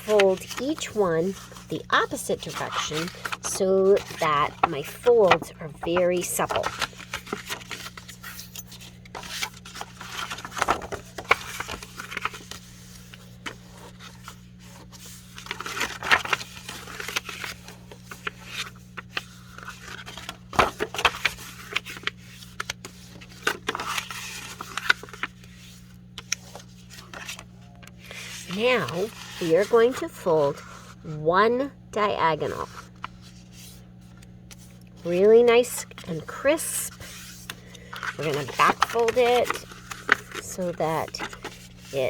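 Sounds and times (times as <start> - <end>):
paper scraping and crinkling: 0.0 - 31.1, 32.4 - 42.0.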